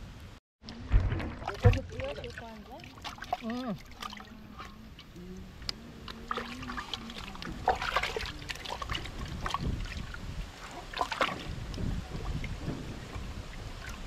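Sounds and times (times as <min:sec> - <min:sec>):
water splashing and trickling: 0:00.6 - 0:14.0.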